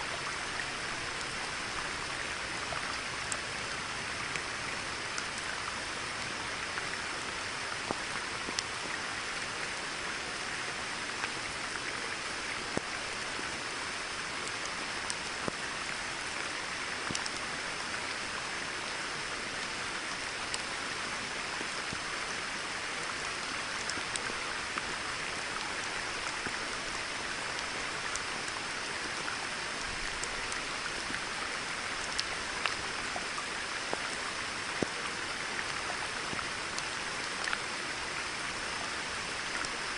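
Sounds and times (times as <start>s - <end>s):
rain falling on a pond: 0.0s - 39.9s.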